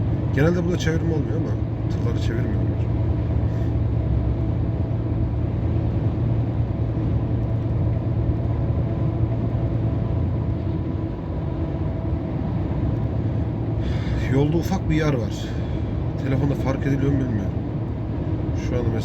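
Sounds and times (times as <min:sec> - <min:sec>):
lorry diesel engine drone: 0:00.0 - 0:19.0
road and tyre noise: 0:00.0 - 0:19.0.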